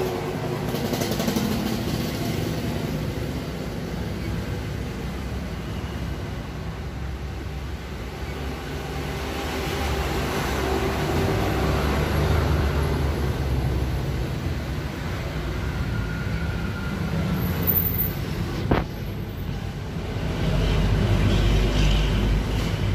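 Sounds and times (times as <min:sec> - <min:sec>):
passing vehicles rumbling: 0:00.0 - 0:22.9.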